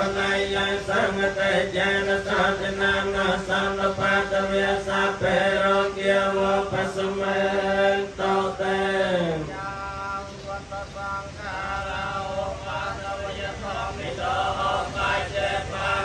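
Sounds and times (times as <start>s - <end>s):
monks chanting in unison: 0.0s - 16.0s.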